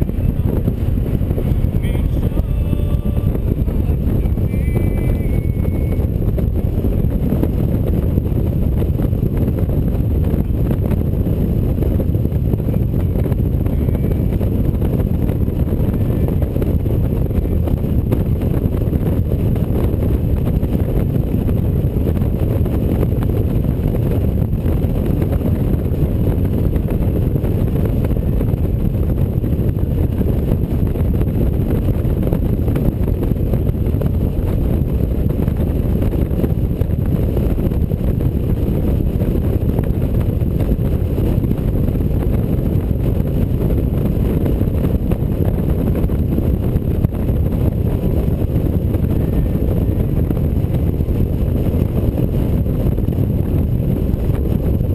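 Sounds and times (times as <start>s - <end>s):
motorcycle road noise: 0.0s - 54.9s
wind rush on microphone: 0.0s - 54.9s.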